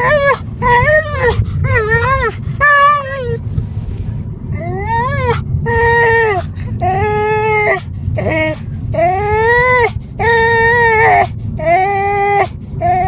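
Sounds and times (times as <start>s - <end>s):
dog whining: 0.0s - 3.5s, 4.5s - 13.0s
low rumble of car: 0.0s - 13.0s.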